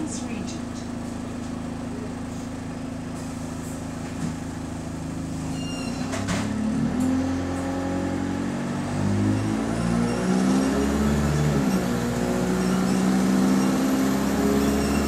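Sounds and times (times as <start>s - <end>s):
bus diesel engine: 0.0s - 15.0s.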